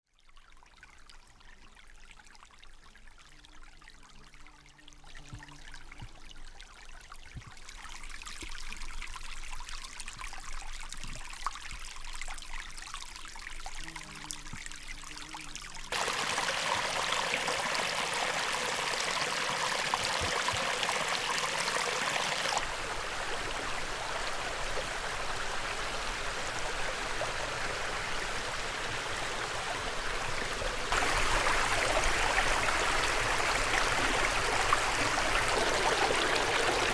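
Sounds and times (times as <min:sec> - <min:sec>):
creek running and splashing: 0:00.4 - 0:36.9.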